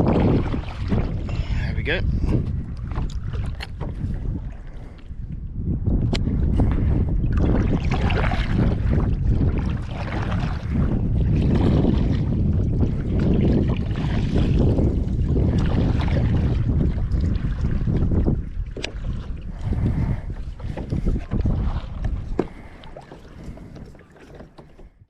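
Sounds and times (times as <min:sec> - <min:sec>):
water splashing around kayak: 0:00.0 - 0:25.0
wind buffeting microphone: 0:00.0 - 0:25.0.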